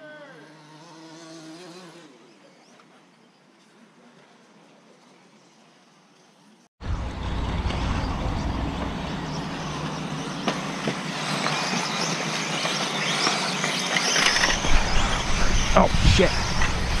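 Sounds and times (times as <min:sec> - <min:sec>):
electric rc cars motor whine: 0:00.0 - 0:03.9, 0:05.1 - 0:17.0.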